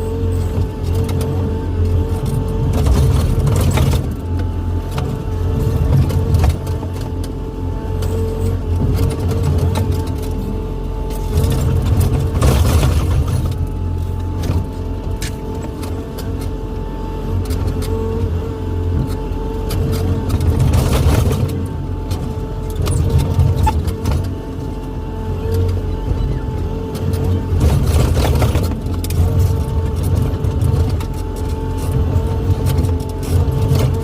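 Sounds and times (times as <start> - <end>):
excavator engine running: 0.0 - 34.0
hydraulic whine: 0.0 - 34.0.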